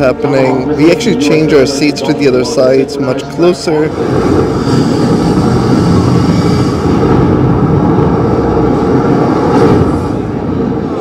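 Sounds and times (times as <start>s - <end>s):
jet engine rumble over speakers: 0.0s - 11.0s.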